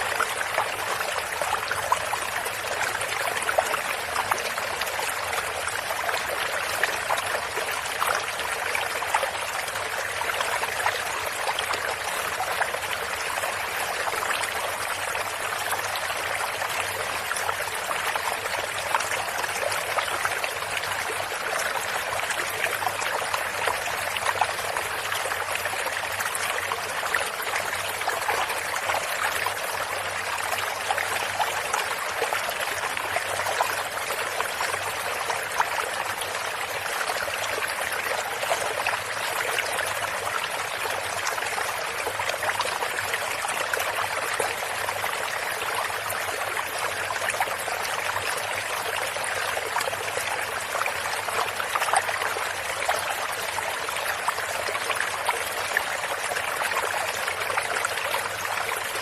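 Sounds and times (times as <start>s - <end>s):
small stream trickling: 0.0s - 59.0s.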